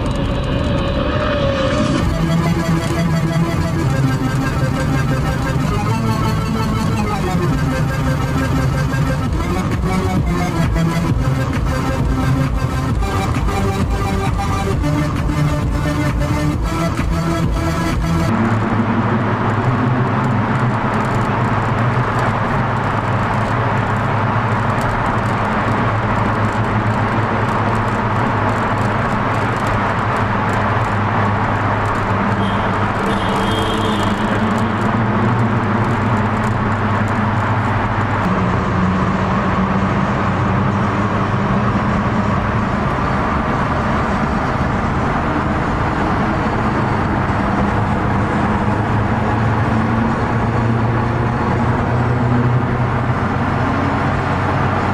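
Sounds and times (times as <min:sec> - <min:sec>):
car engines running: 0:00.0 - 0:54.9
street traffic noise: 0:00.0 - 0:54.9.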